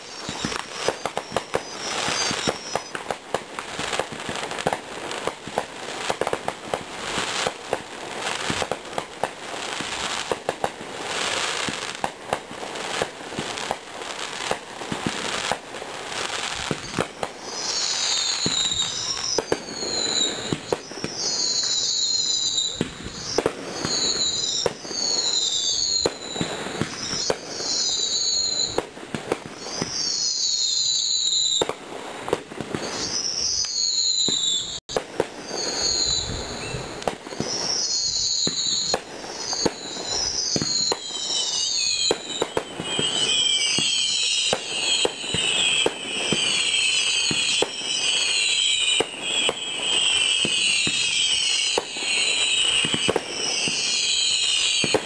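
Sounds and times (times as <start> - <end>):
fireworks bangs and crackling bursts: 0.0 - 55.0
high gliding firework whistles: 0.0 - 55.0.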